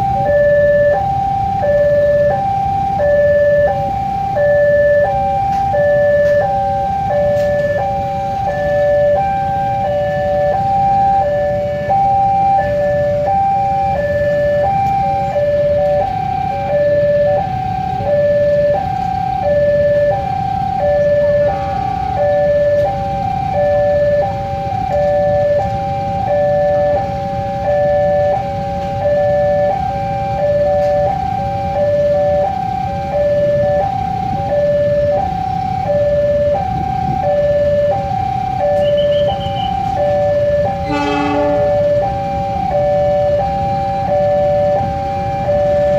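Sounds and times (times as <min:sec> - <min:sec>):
level crossing two-tone alarm: 0:00.0 - 0:45.9
motorcycle engines idling: 0:00.0 - 0:45.9.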